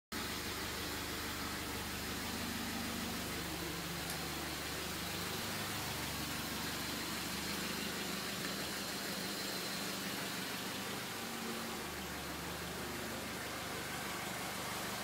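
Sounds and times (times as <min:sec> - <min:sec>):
car engine idling: 0:00.1 - 0:15.0
constant hiss: 0:00.2 - 0:15.0.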